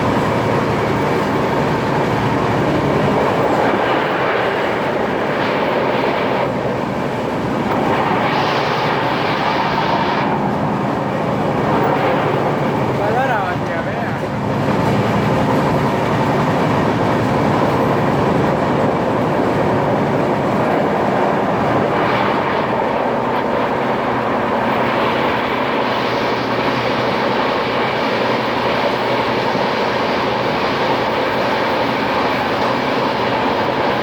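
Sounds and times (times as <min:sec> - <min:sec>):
train rumble and rail noise: 0:00.0 - 0:34.0.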